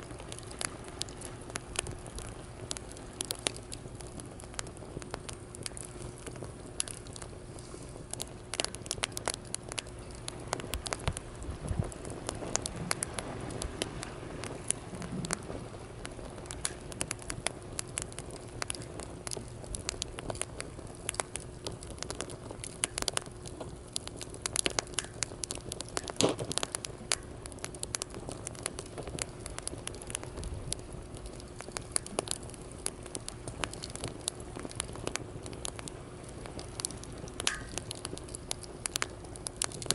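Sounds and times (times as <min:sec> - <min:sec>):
steady background hiss: 0:00.0 - 0:39.9
wood fire crackling and popping: 0:00.0 - 0:39.9.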